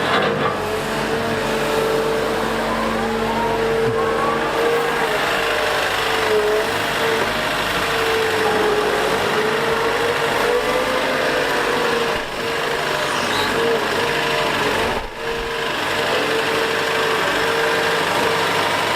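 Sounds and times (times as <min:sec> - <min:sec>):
excavator engine whining: 0:00.0 - 0:18.9.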